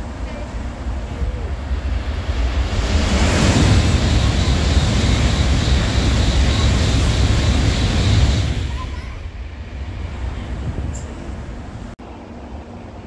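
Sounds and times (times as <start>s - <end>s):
high-speed train roaring past: 0.0s - 13.0s.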